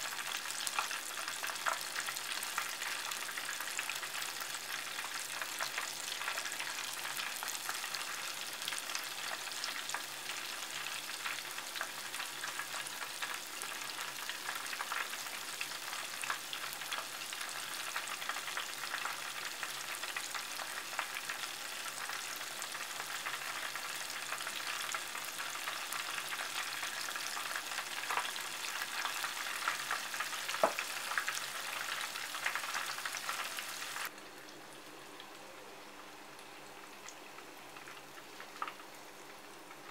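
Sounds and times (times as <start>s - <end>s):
tempura deep-frying sizzle: 0.0s - 39.9s.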